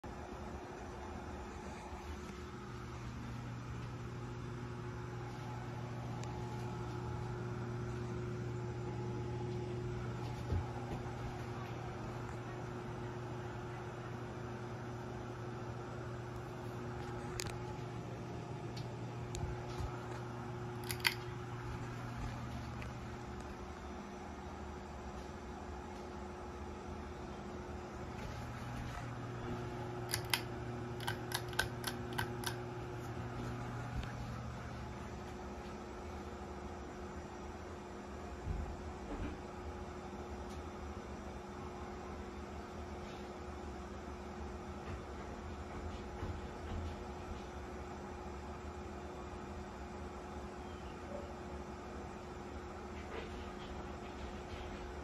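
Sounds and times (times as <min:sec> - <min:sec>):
ceiling fan motor hum: 0:00.0 - 0:55.0.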